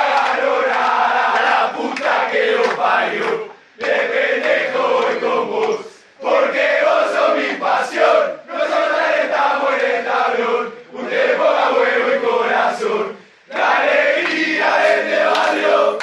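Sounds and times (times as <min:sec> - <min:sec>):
group of voices chanting: 0:00.0 - 0:16.0.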